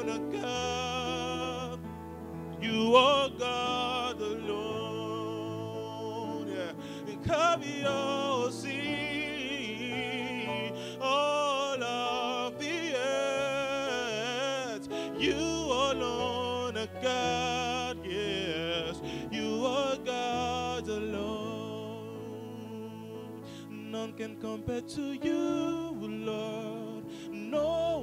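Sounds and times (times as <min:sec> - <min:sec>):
keyboard chords: 0:00.0 - 0:28.0
man singing worship song: 0:00.0 - 0:28.0.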